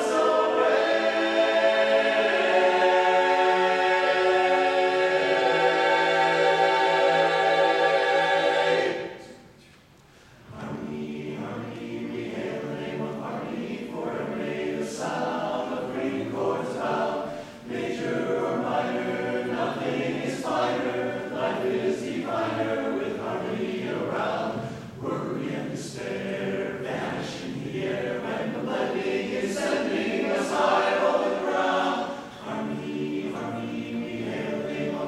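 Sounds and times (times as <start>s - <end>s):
men's chorus singing a cappella: 0.0s - 9.3s, 10.5s - 35.0s.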